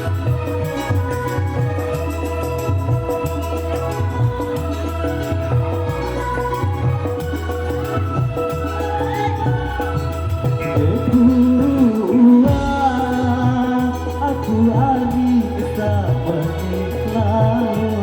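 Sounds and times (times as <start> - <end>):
keyboard chords and bass: 0.0 - 18.0
person singing long wavering notes: 0.0 - 18.0.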